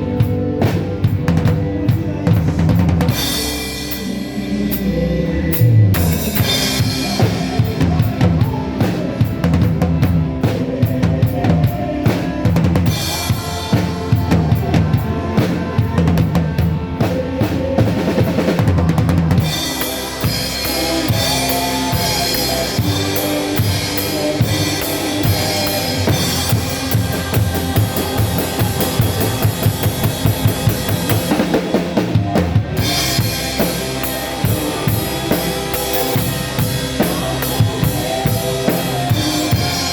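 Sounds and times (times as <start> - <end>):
church band instrumental music: 0.0 - 39.9
drum kit playing a steady beat: 0.0 - 39.9.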